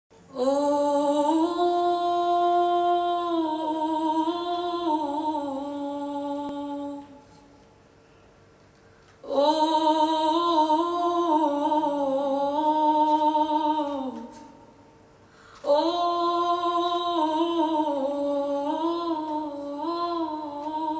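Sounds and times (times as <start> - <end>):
woman singing wordless held notes: 0.3 - 7.6, 9.2 - 14.8, 15.6 - 20.9.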